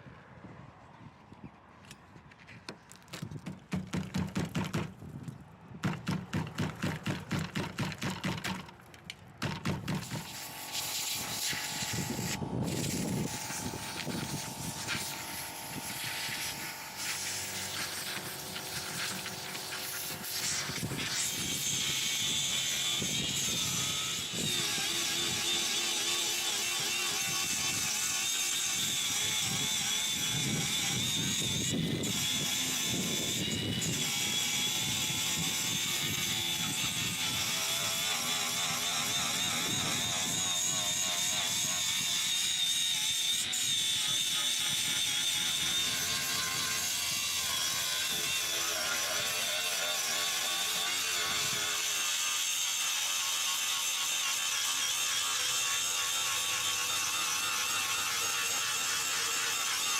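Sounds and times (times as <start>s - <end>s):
power tool whining on metal: 6.0s - 59.9s.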